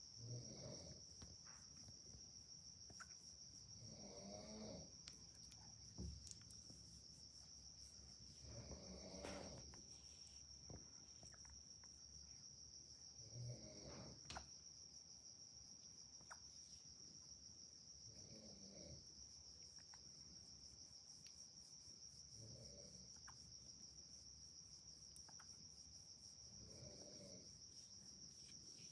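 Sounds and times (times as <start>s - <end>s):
crickets chirring: 0.0s - 28.9s.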